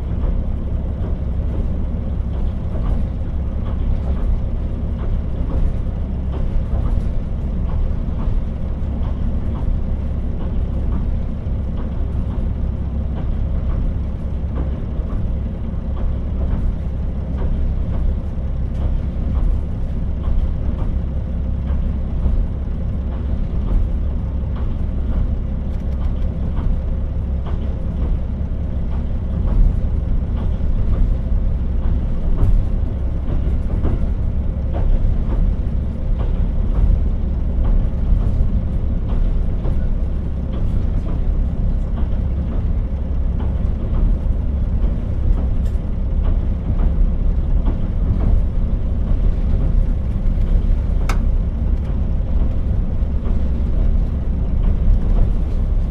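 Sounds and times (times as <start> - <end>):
train rumbling on rails: 0.0 - 55.9.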